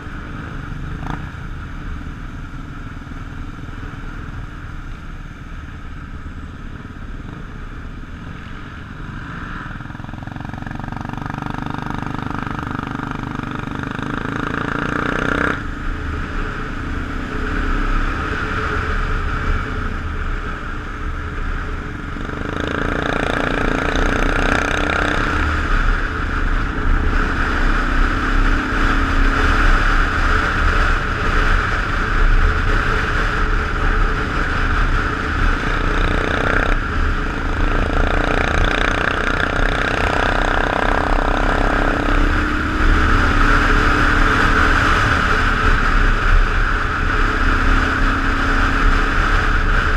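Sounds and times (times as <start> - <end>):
motorcycle exhaust while riding: 0.0 - 49.9.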